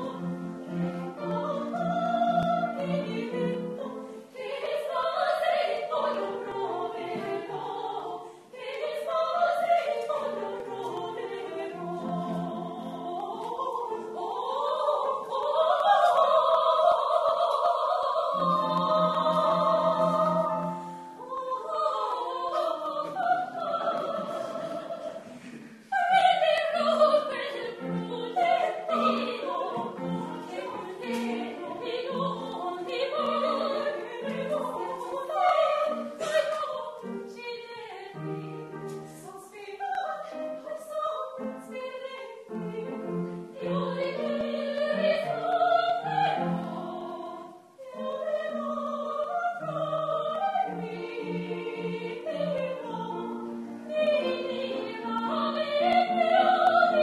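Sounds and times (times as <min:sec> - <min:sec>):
women singing operatic duet: 0:00.0 - 0:57.0.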